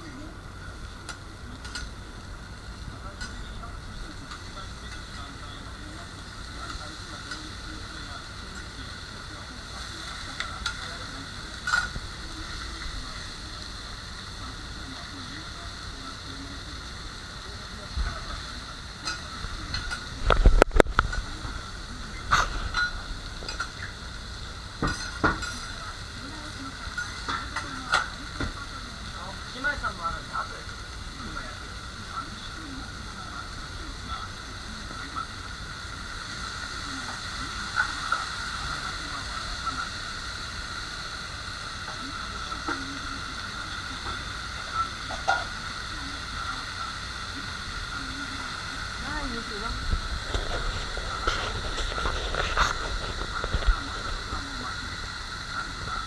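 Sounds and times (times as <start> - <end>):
faint chatter: 0.0 - 56.0
food sizzling on a griddle: 0.0 - 56.0.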